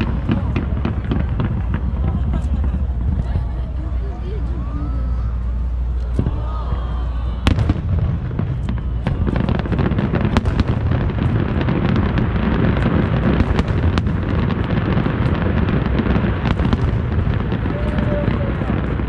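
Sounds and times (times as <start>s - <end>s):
fireworks bangs: 0.0s - 19.0s
fireworks crackling and popping: 0.0s - 19.0s.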